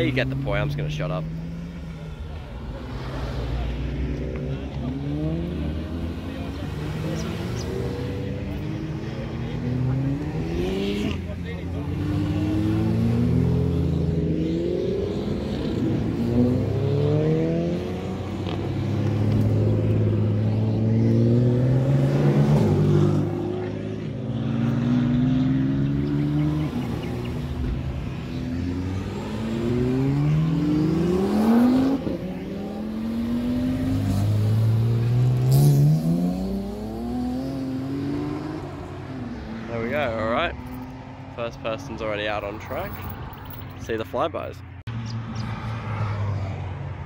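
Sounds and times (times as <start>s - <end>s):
car engines revving away: 0.0s - 46.8s.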